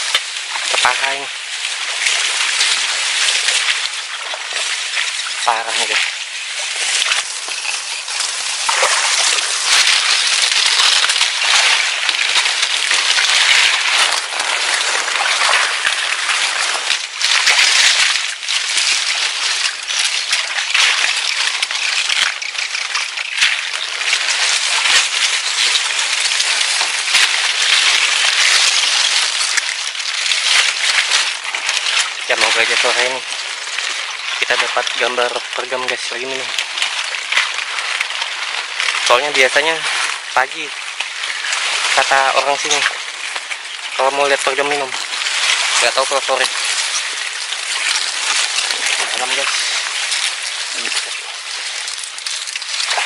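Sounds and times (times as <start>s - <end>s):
person wading through water: 0.0s - 53.0s.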